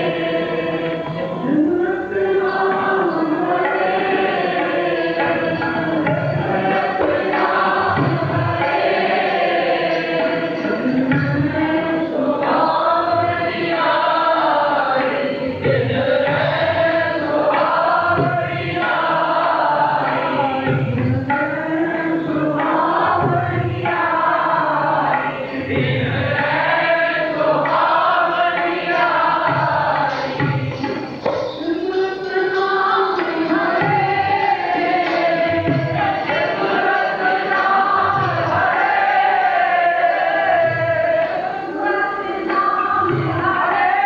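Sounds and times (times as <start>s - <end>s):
harmonium: 0.0s - 44.0s
men singing a hymn: 0.0s - 44.0s
tabla strokes: 0.0s - 44.0s.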